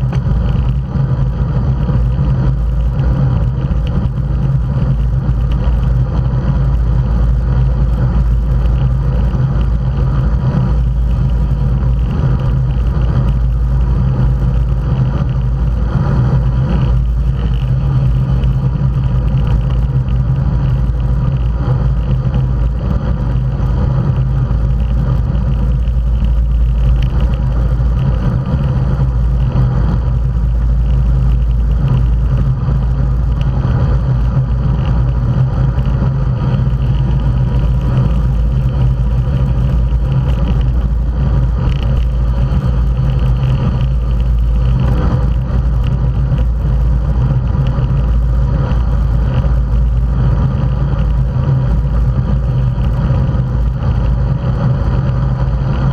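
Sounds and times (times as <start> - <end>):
tyres rolling on asphalt: 0.0 - 55.9
wind rush on microphone: 0.0 - 55.9.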